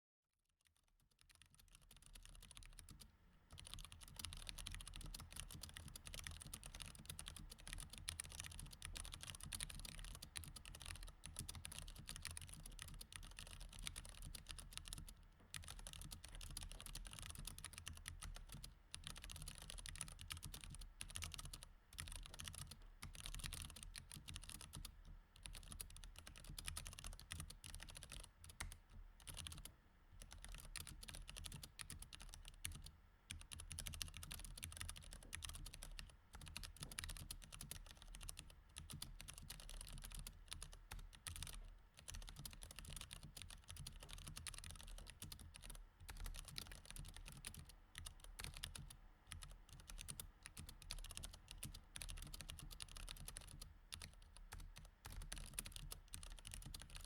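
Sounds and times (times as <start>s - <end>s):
fast mechanical keyboard typing: 1.2s - 57.0s.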